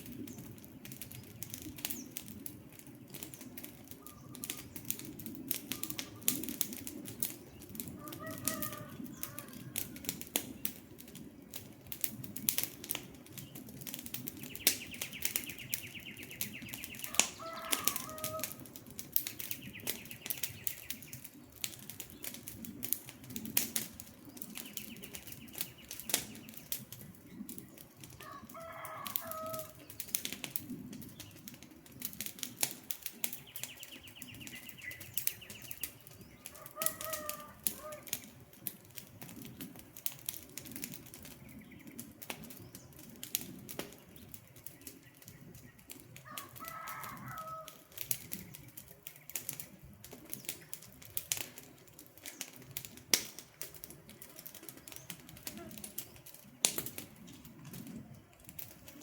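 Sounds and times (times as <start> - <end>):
campfire crackling and popping: 0.0 - 59.0
low flame rumble: 0.0 - 59.0.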